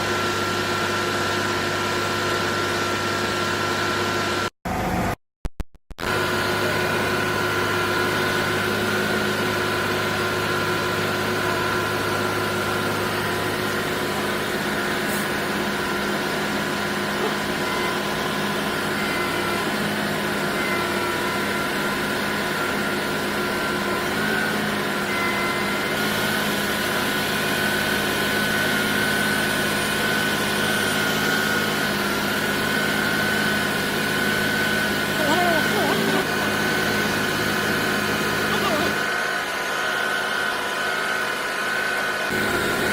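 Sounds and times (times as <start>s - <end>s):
machine drone: 6.0s - 42.9s
steady high whine: 6.0s - 42.9s.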